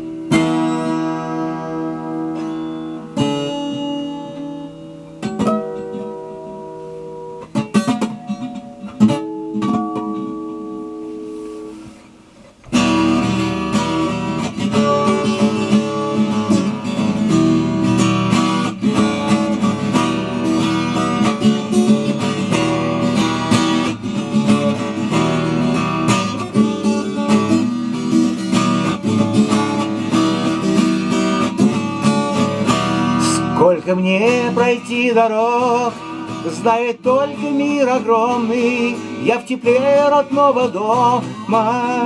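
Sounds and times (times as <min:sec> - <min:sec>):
strummed acoustic guitar: 0:00.0 - 0:42.0.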